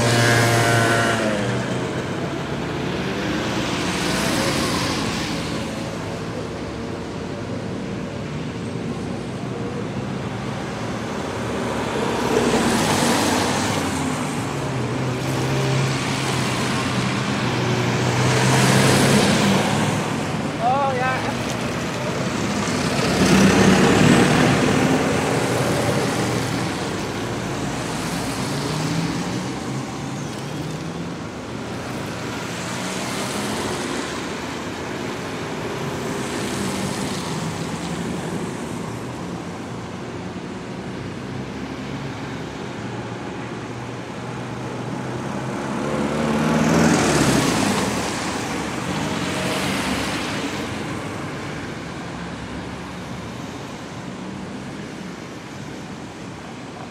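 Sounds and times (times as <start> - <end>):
road traffic: 0.0 - 56.9.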